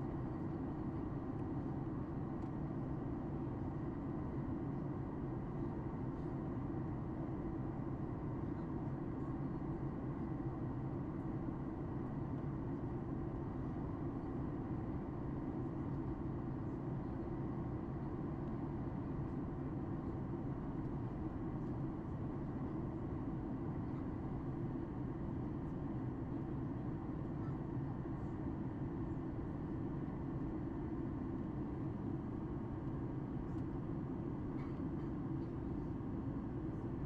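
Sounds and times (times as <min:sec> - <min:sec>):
aircraft cabin drone: 0:00.0 - 0:37.0.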